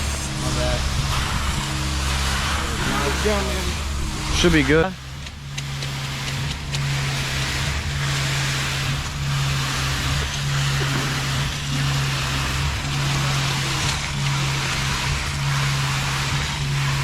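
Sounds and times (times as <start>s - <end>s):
mixer truck engine humming: 0.0s - 17.0s
rushing noise: 0.0s - 17.0s.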